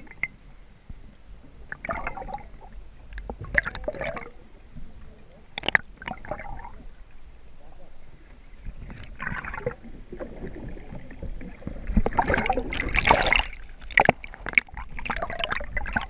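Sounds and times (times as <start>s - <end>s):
muffled water sloshing underwater: 0.0s - 16.0s.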